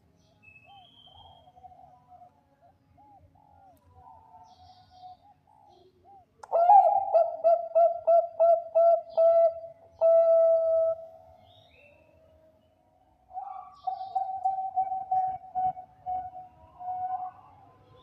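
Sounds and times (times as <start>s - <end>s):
dove cooing: 0.7s - 12.0s, 13.3s - 18.0s.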